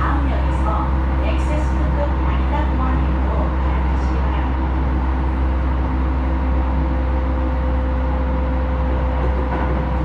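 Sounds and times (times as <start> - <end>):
steady train whine: 0.0 - 10.0
train wheels rumbling on rail: 0.0 - 10.0.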